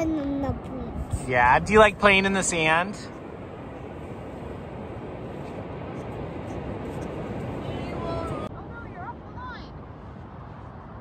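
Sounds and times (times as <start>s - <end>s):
wind: 0.0s - 11.0s
ocean surf on beach: 1.3s - 11.0s.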